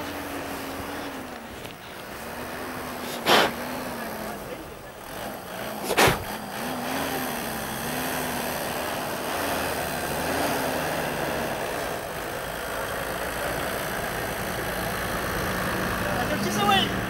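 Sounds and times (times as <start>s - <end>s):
engine labouring in snow: 0.0s - 17.0s.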